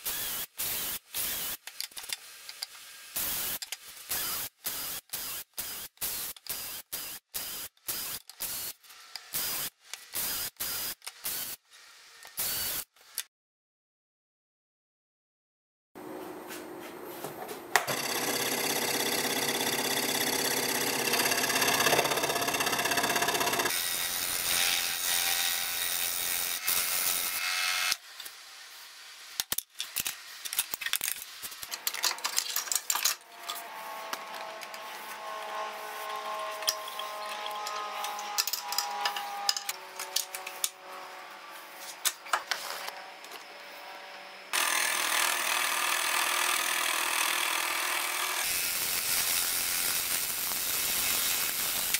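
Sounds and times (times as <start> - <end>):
scroll saw cutting wood: 0.0 - 13.3, 17.8 - 28.4, 33.2 - 51.9.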